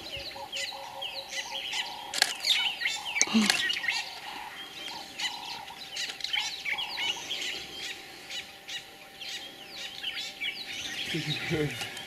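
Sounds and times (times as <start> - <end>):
lower held bird notes: 0.0 - 12.0
wild birds chirping: 0.0 - 12.0.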